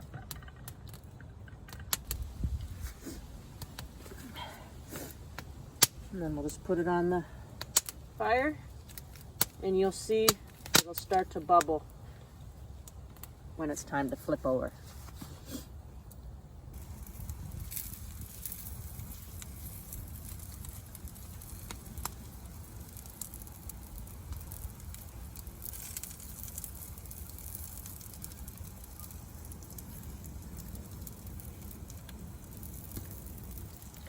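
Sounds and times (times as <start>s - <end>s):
campfire crackling and popping: 0.0s - 14.8s, 15.6s - 34.0s
low fire rumble: 0.0s - 34.0s.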